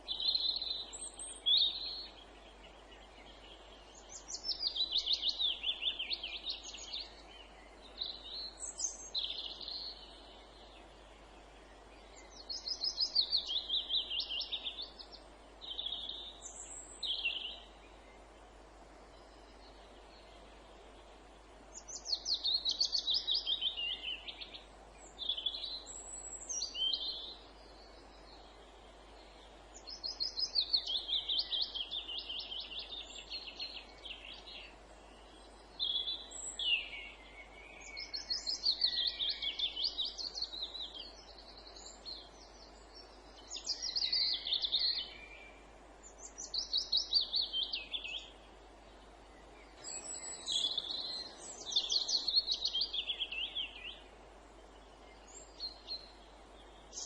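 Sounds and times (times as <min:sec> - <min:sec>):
low background hiss: 0:00.0 - 0:57.0
songbirds singing: 0:00.0 - 0:57.0.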